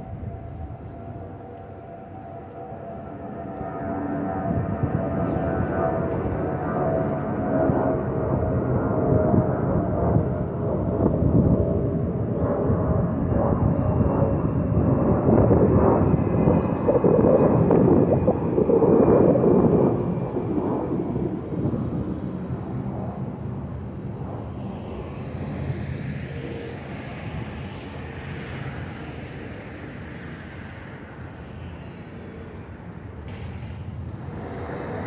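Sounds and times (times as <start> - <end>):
jet airliner passing overhead: 0.0 - 35.0.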